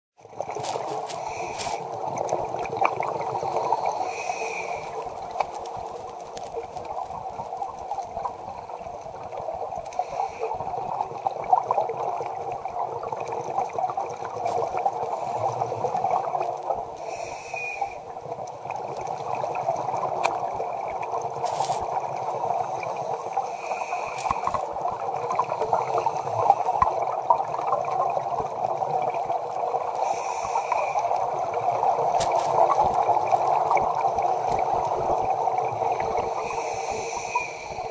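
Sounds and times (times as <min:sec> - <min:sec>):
diver breathing and bubbling: 0:00.2 - 0:37.9
underwater rushing water: 0:00.2 - 0:37.9.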